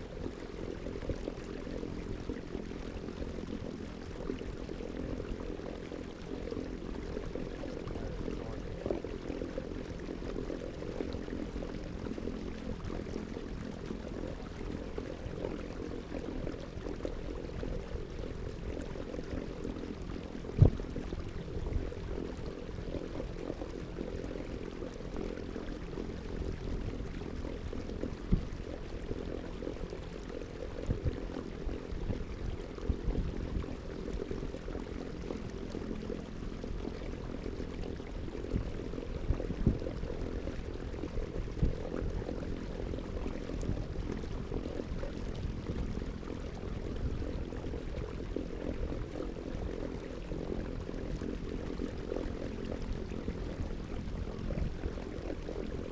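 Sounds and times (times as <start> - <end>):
low hum: 0.0 - 55.9
water sloshing around kayak: 0.0 - 55.9.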